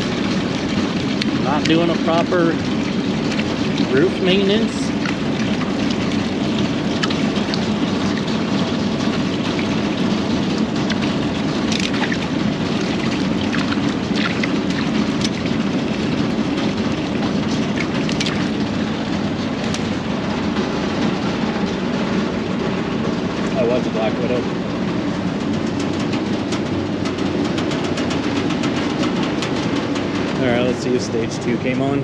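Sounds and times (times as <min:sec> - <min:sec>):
air-conditioning units droning: 0:00.0 - 0:32.0.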